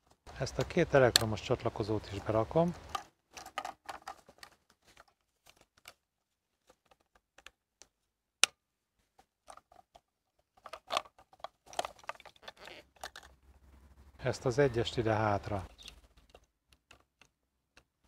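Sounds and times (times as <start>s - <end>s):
plastic parts clicking and rattling: 0.0s - 13.9s, 15.2s - 18.0s.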